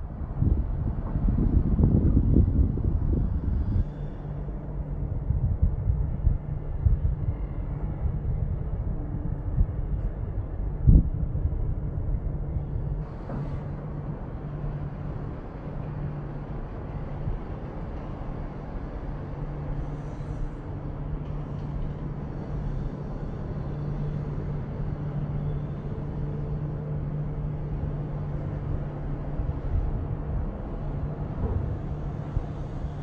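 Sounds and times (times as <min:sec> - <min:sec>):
heavy diesel machinery engine drone: 0:00.0 - 0:33.0.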